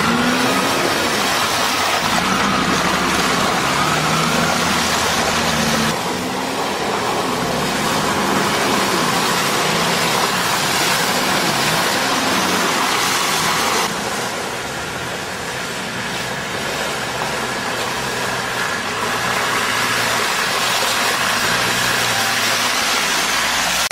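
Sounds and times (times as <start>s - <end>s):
vehicle engine revving: 0.0s - 23.9s.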